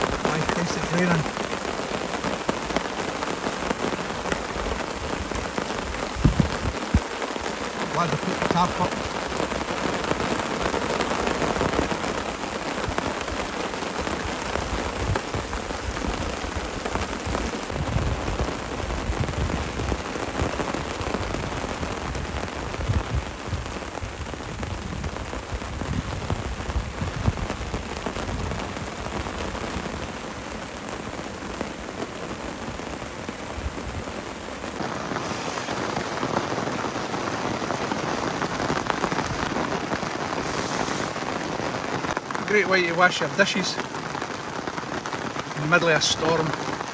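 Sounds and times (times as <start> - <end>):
heavy rain drumming on a tarp: 0.0 - 46.9.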